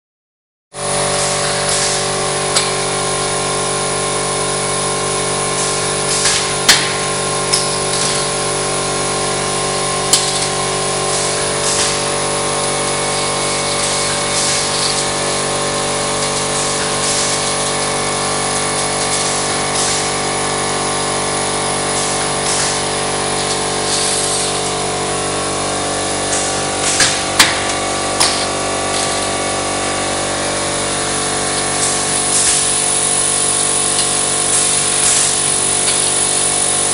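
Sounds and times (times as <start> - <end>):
roll forming machine whine: 0.8 - 36.9.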